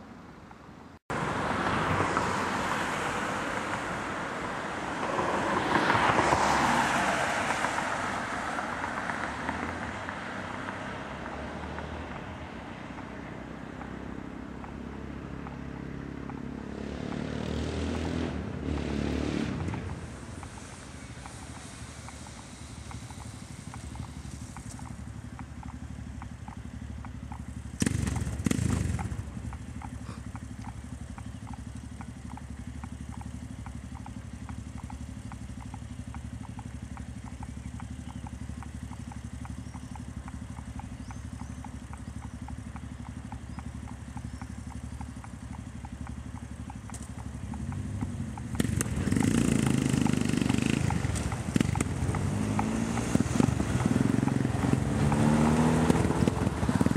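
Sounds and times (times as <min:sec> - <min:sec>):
motorcycle idling and accelerating: 0:00.0 - 0:56.9.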